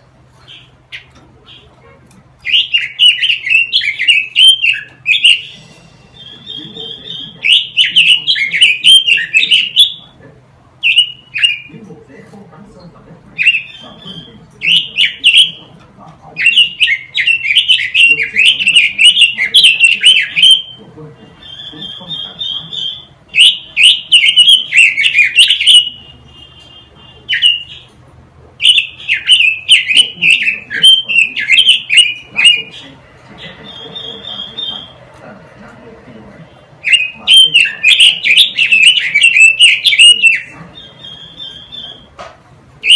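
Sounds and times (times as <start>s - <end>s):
songbird warbling: 0.4s - 10.2s, 13.4s - 15.7s, 16.4s - 20.8s, 21.4s - 28.0s, 28.6s - 35.8s, 36.8s - 42.2s.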